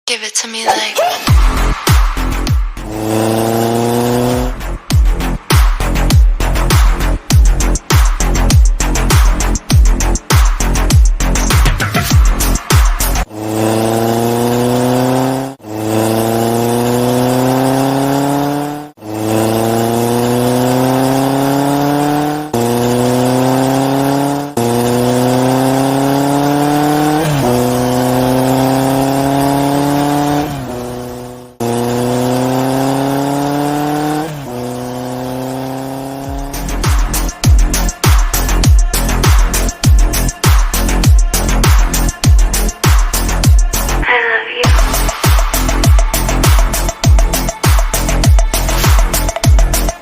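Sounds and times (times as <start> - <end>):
race car engine revving: 1.3 - 44.0, 44.6 - 50.0.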